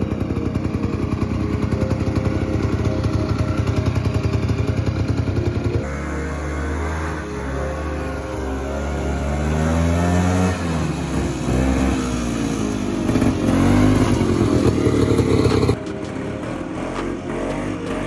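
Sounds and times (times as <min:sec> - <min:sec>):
engine clatter: 0:00.0 - 0:07.4, 0:08.1 - 0:18.0
snow vehicle engine revving: 0:00.0 - 0:18.0.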